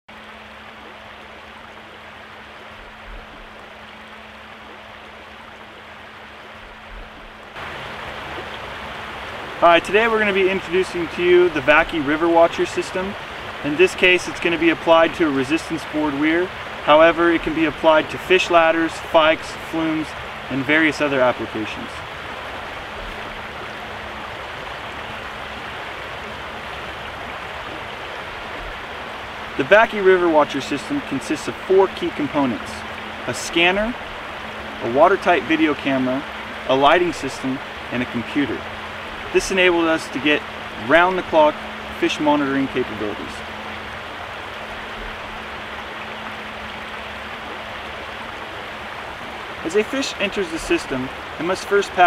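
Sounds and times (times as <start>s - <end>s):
faint steady hum: 0.1s - 52.0s
river water rushing: 0.1s - 52.0s.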